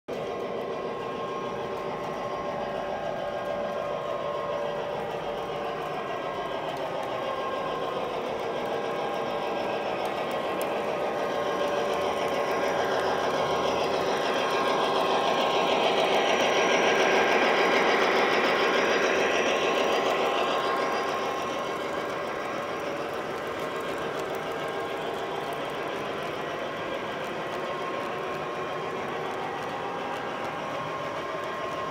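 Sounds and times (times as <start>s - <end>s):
model train running on track: 0.1s - 31.9s.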